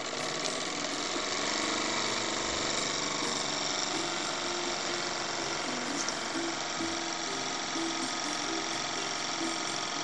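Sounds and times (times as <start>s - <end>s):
steam hissing: 0.0s - 10.0s
toy steam engine running fast: 0.0s - 10.0s.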